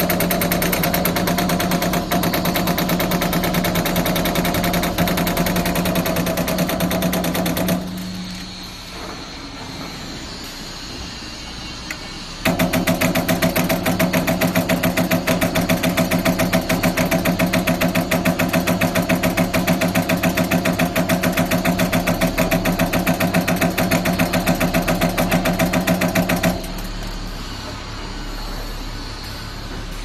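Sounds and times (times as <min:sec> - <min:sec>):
machine drive hum: 0:00.0 - 0:30.0.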